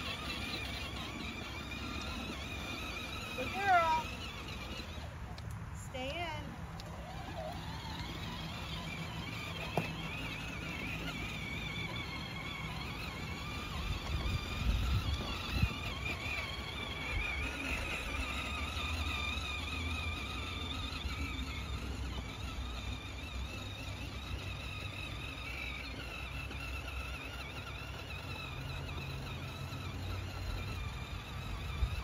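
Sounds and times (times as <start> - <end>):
electric motors whining: 0.0 - 32.0.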